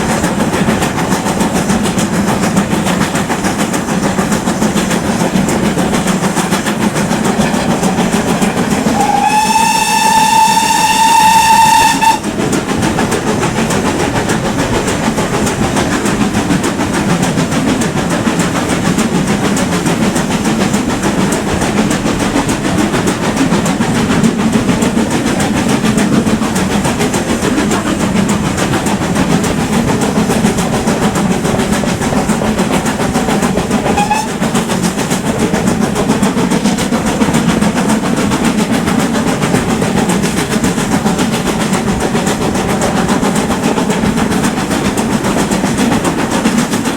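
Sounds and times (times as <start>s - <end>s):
steam train rumbling: 0.0s - 46.9s.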